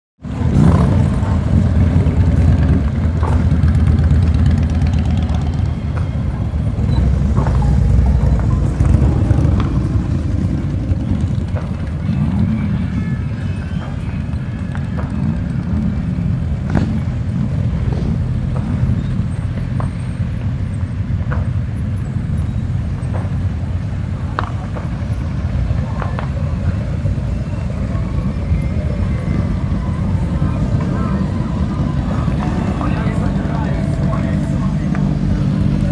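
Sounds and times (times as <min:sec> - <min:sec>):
vehicle engine rumbling: 0:00.2 - 0:35.9.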